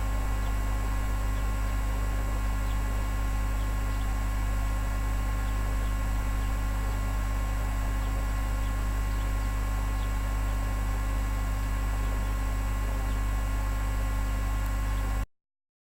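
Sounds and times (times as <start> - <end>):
electrical hum with tones: 0.0 - 15.3.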